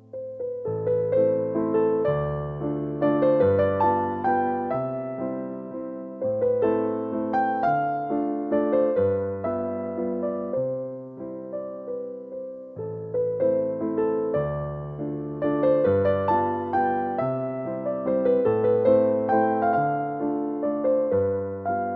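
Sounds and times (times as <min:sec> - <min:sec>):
gentle electric piano music: 0:00.0 - 0:21.9.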